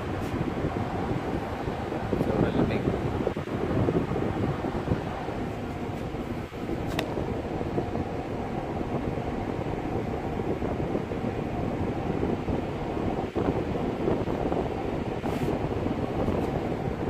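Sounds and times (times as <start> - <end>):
ship machinery rumbling: 0.0 - 17.0
wind on microphone: 0.0 - 17.0.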